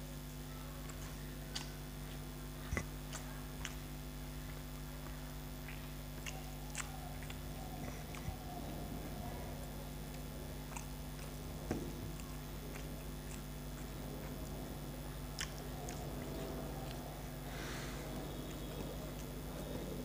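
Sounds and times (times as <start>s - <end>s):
steady low hum: 0.0s - 20.0s
chewing mouth sounds: 0.8s - 20.0s.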